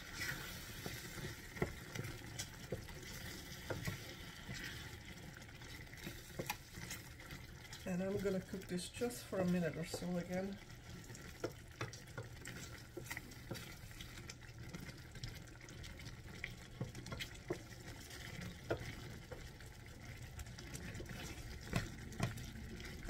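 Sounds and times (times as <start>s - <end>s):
stew simmering quietly: 0.0s - 23.0s.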